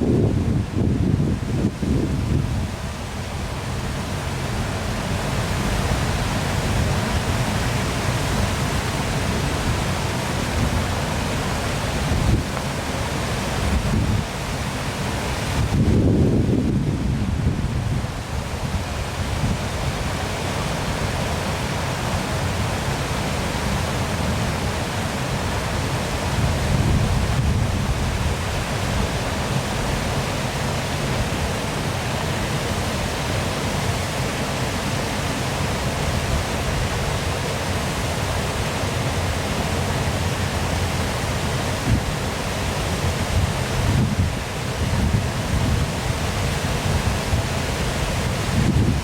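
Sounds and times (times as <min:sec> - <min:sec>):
low rumble of falling water: 0:00.0 - 0:49.0.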